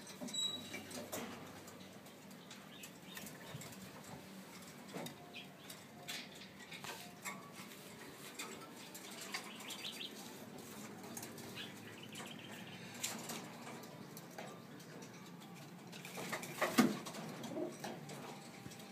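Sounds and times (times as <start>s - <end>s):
pigeons scuffling and clicking: 0.0s - 18.9s.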